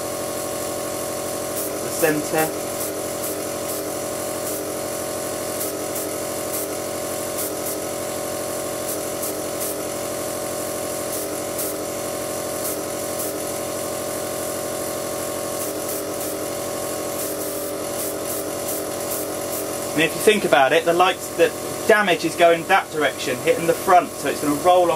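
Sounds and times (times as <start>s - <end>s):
air compressor humming: 0.0s - 24.9s
airbrush spraying hissing bursts: 0.0s - 24.9s.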